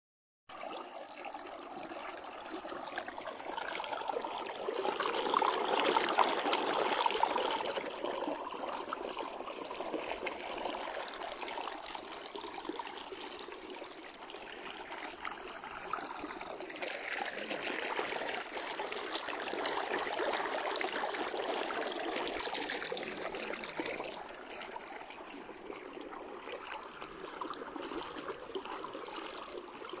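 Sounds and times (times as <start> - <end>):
stream running over stones: 0.7 - 30.0.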